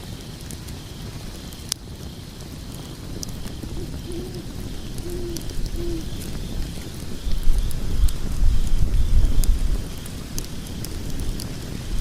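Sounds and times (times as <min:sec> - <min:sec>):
fire crackling and popping: 0:00.0 - 0:12.0
fire flames rumbling: 0:00.0 - 0:12.0.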